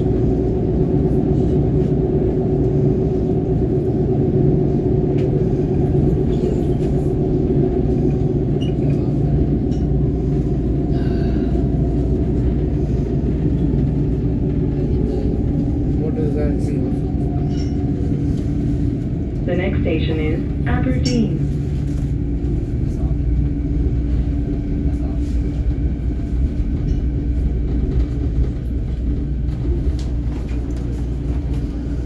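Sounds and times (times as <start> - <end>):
train car rumble and hum: 0.0 - 32.0.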